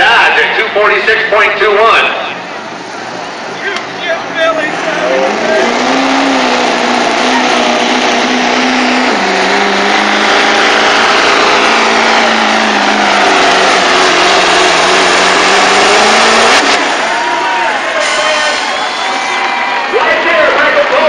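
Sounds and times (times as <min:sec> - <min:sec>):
dense rushing noise: 0:00.0 - 0:20.9
truck diesel engine under heavy load: 0:00.0 - 0:21.0.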